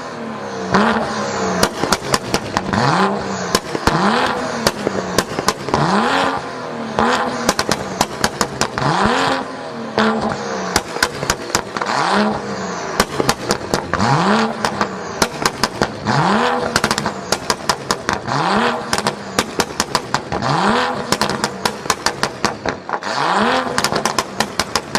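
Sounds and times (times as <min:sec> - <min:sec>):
car engine revving: 0:00.0 - 0:24.9
exhaust pops and crackles: 0:00.8 - 0:09.5, 0:10.1 - 0:12.4, 0:13.0 - 0:24.9.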